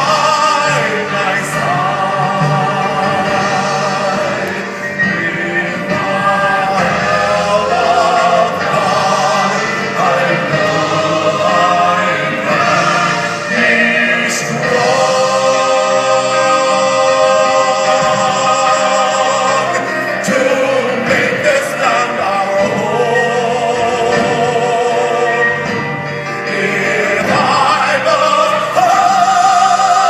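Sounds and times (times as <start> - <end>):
gospel singing: 0.0 - 30.0
instrumental accompaniment: 0.0 - 30.0.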